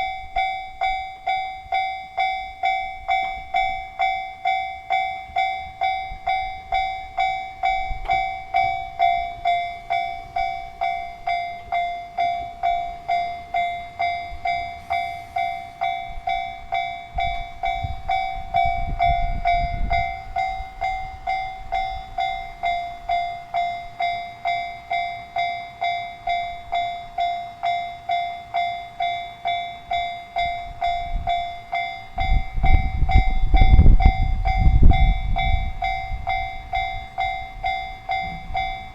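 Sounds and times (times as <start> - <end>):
diesel train rumble: 0.0 - 38.9
level crossing warning bell: 0.0 - 38.9.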